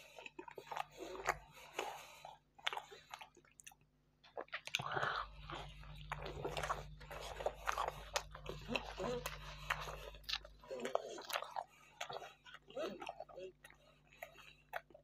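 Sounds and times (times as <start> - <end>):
wet chewing and biting: 0.0 - 15.0.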